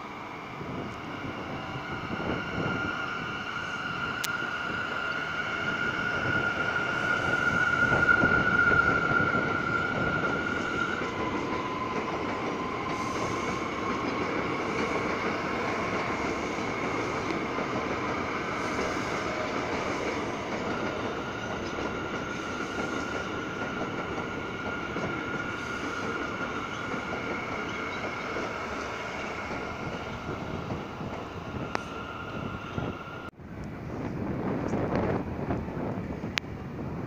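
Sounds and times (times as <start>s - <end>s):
subway train rumbling over rails: 0.0s - 37.0s.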